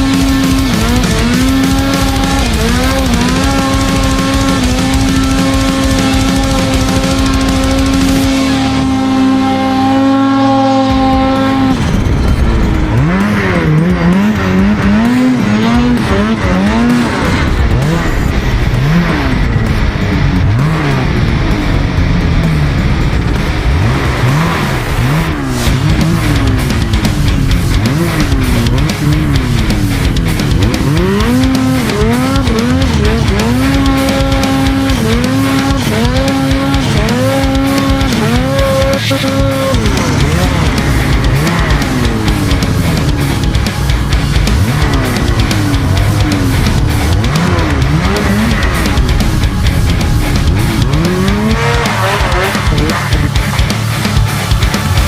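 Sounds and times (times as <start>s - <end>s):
music playing: 0.0s - 55.0s
snowmobile engine revving: 0.0s - 55.0s.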